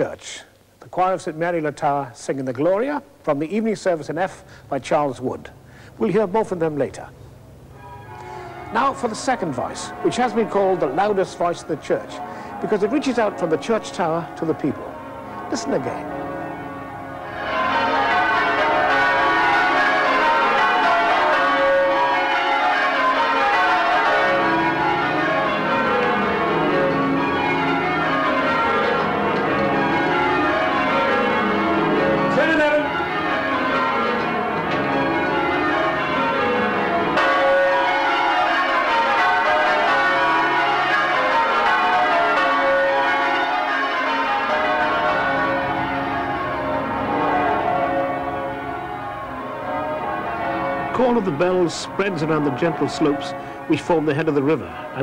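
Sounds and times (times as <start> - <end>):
church bells change ringing: 2.7 - 55.0.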